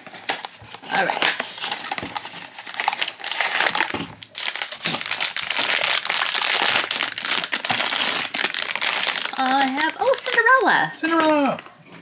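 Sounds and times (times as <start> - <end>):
foil wrapper crinkling: 0.0 - 11.6.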